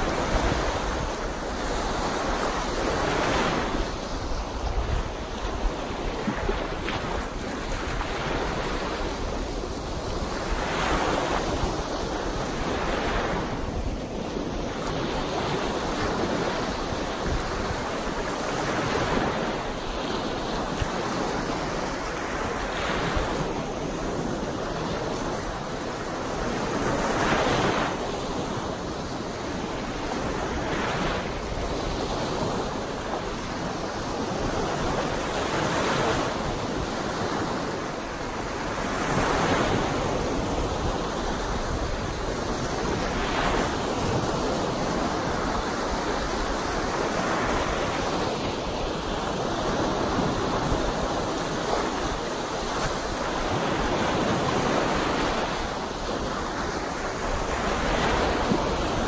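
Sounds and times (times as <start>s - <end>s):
waves breaking on shore: 0.0s - 59.0s
wind gusts on microphone: 0.0s - 59.0s.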